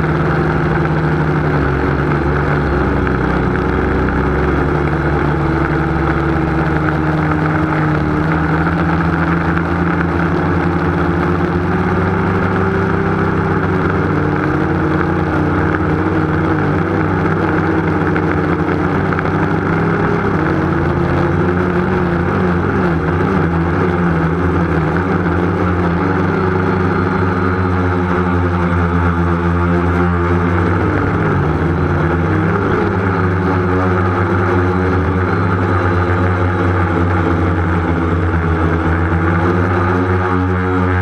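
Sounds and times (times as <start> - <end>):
model aircraft motor drone: 0.0 - 41.0.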